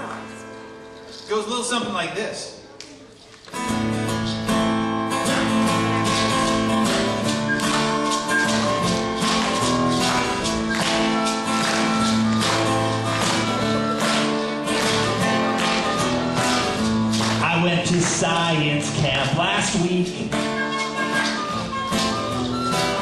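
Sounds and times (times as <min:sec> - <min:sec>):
pop-rock band playing: 0:03.6 - 0:23.0.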